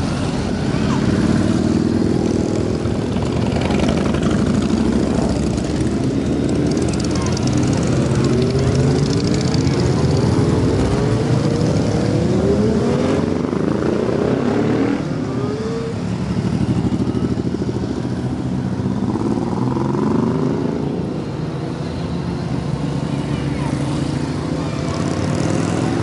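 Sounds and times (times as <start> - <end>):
motorcycles riding past revving: 0.0 - 26.0.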